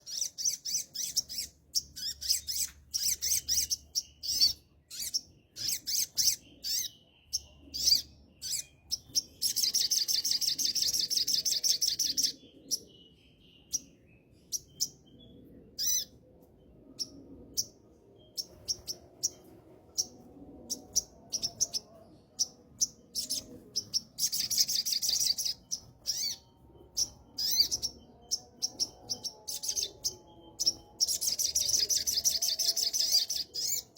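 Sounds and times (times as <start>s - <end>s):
songbird sharp high chirps: 0.0s - 16.2s, 20.0s - 33.9s.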